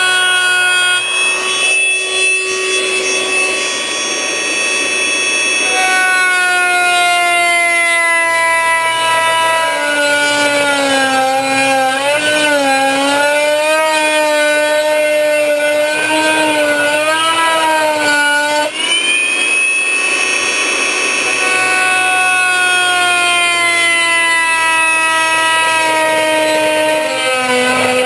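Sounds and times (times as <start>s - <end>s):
multi-tool cutting aluminum sheet: 0.0s - 28.0s.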